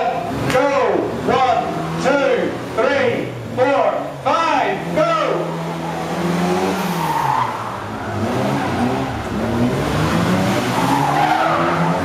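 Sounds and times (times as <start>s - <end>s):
small car engines revving: 0.0s - 12.0s.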